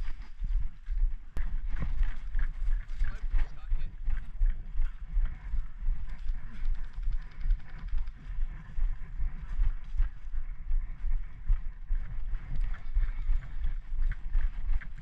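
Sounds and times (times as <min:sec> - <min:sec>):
footsteps: 0:00.0 - 0:15.0
wind buffeting microphone: 0:00.0 - 0:15.0.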